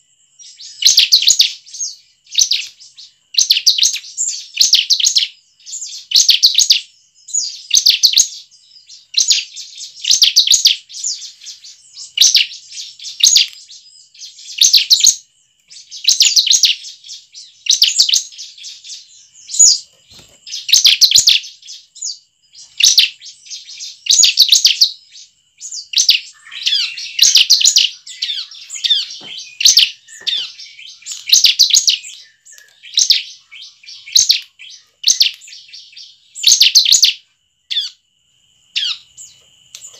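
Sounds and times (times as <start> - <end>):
bird rapid high chirping: 0.0 - 38.0, 38.8 - 39.9.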